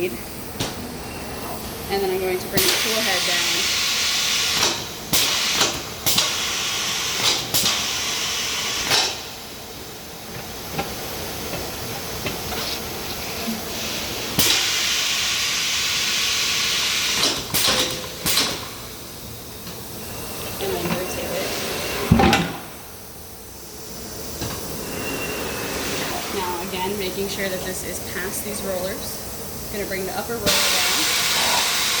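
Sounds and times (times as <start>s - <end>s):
compressed air hissing: 2.2s - 32.0s.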